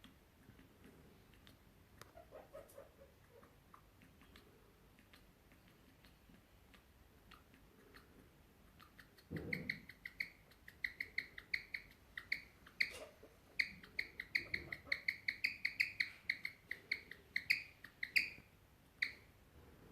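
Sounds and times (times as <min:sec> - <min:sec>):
guinea pig chirping: 0:00.0 - 0:19.4.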